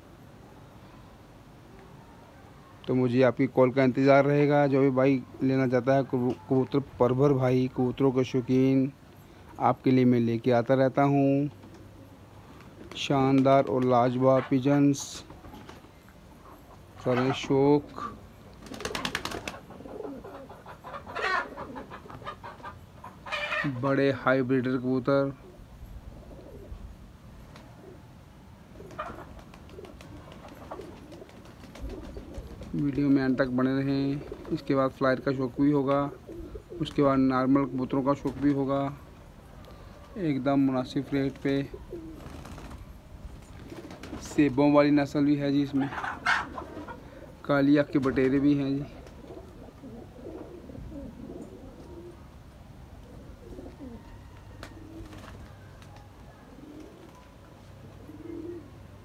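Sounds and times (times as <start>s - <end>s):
pigeons cooing: 4.1s - 6.9s, 11.5s - 23.9s, 25.2s - 59.0s.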